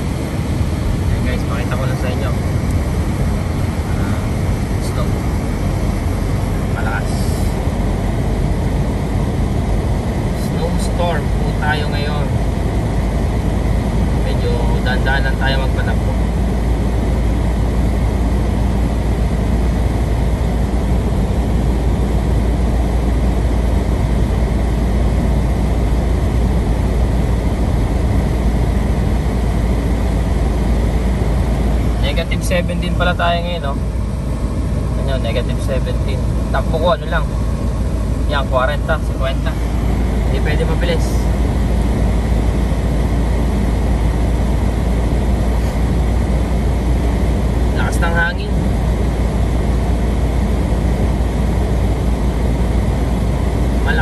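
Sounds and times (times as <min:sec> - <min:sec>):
car road and wind noise: 0:00.0 - 0:54.0.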